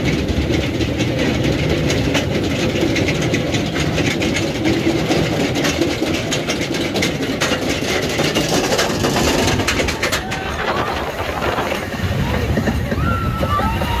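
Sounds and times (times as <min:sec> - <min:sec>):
roller coaster chain clicking and clanking: 0:00.0 - 0:14.0.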